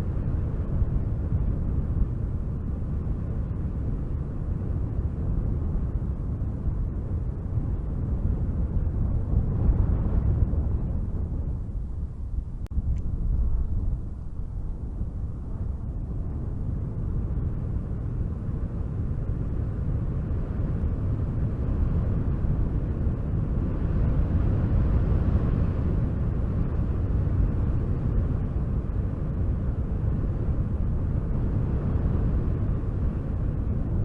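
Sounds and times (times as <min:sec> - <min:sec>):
wind blowing: 0:00.0 - 0:34.0.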